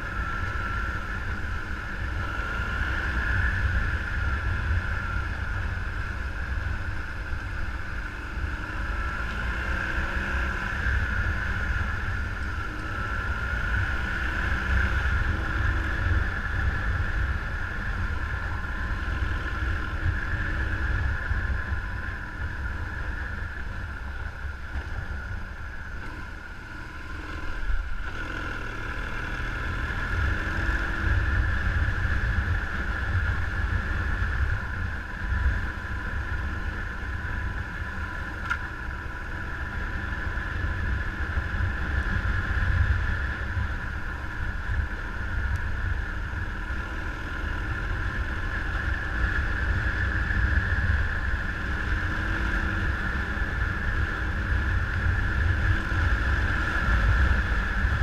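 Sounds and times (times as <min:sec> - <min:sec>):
vehicle drone: 0:00.0 - 0:58.0
wind rumble on microphone: 0:00.0 - 0:58.0.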